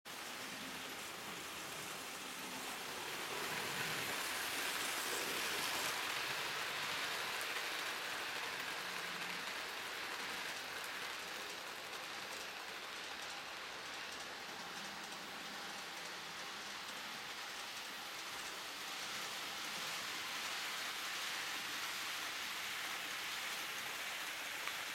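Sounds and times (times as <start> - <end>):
model train running on track: 0.1 - 24.9.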